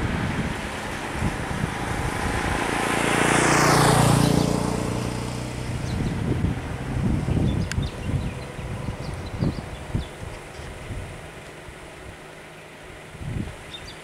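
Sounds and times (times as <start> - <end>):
motorcycle passing: 0.0 - 14.0.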